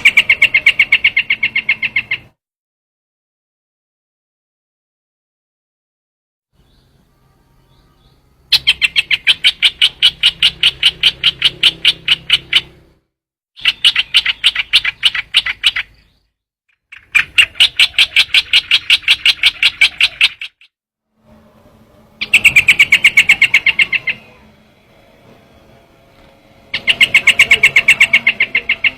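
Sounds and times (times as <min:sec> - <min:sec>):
recorded bird call: 0:00.0 - 0:02.4, 0:06.6 - 0:13.0, 0:13.6 - 0:20.7, 0:21.3 - 0:28.9.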